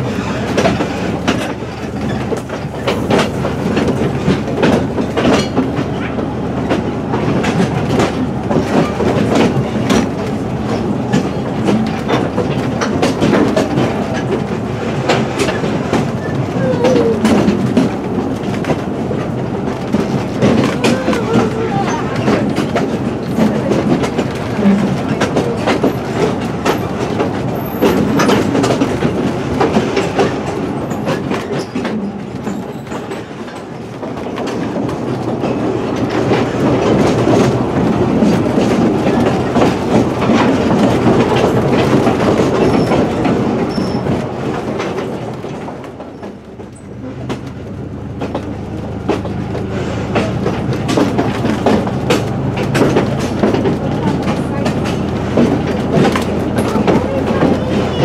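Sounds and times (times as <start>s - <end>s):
railcar body rattling: 0.0s - 58.0s
wheels clacking over rail joints: 0.0s - 58.0s.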